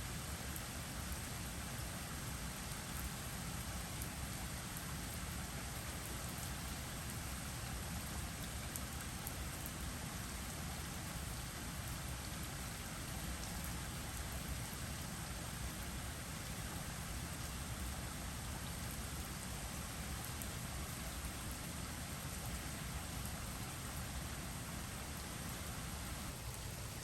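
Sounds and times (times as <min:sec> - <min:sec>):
heavy rain hiss: 0:00.0 - 0:27.0.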